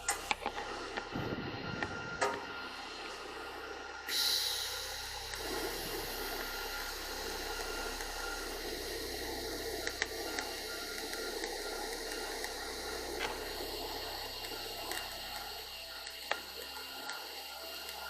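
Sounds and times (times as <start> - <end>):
welding arc hissing: 0.0 - 18.0.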